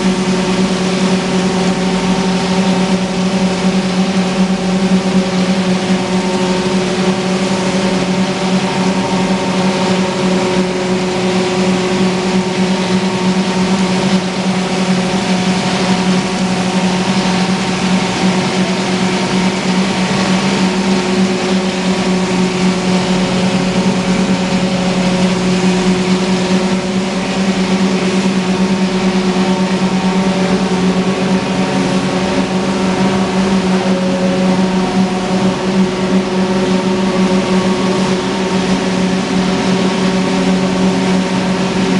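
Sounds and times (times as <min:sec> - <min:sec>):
grinding mill and blower droning: 0:00.0 - 0:41.9.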